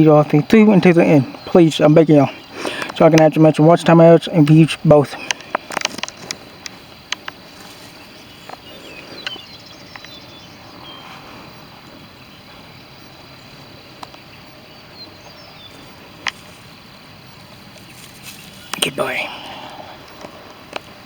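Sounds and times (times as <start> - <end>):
high insect-like hum: 0.0 - 21.0.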